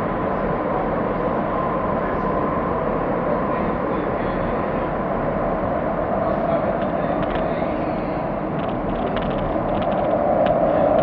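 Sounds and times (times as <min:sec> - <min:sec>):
faint steady whine: 0:00.0 - 0:11.0
train wheels rumbling on rails: 0:00.0 - 0:11.0.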